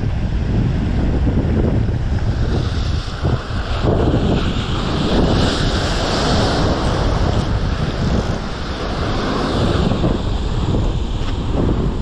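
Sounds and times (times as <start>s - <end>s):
sea surf rushing: 0.0s - 12.0s
wind buffeting microphone: 0.0s - 12.0s.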